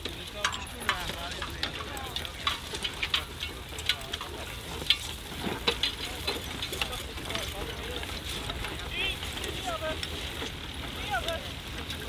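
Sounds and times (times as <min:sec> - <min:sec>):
harness clinking: 0:00.0 - 0:12.0
horse hooves on stubble: 0:00.0 - 0:12.0
plough crackling through stubble: 0:00.0 - 0:12.0.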